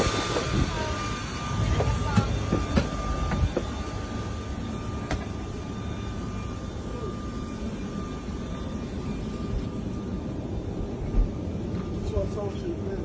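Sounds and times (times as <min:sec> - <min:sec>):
faint high whine: 0:00.0 - 0:13.0
low engine rumble: 0:00.1 - 0:13.0.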